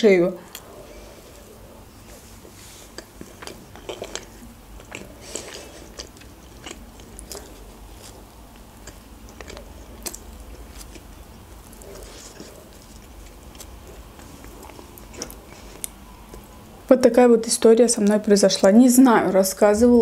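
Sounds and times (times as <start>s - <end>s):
person chewing pancake: 0.5s - 16.7s.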